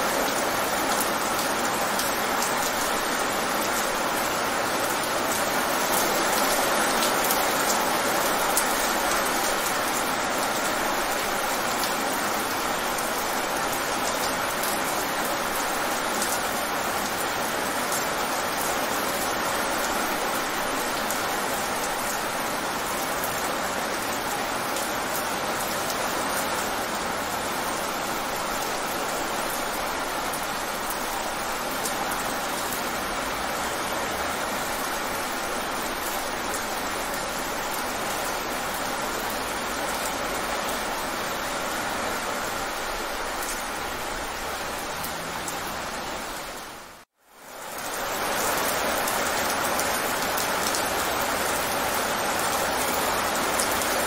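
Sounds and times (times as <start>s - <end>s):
rain on wet pavement: 0.0s - 54.0s.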